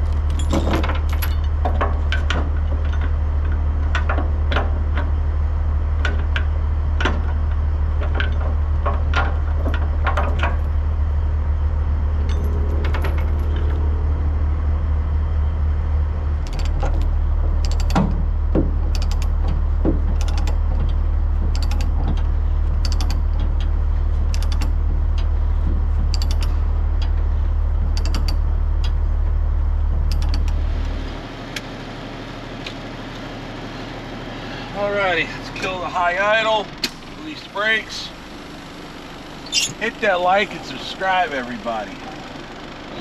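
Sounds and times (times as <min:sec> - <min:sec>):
diesel truck engine idling: 0:00.0 - 0:43.0.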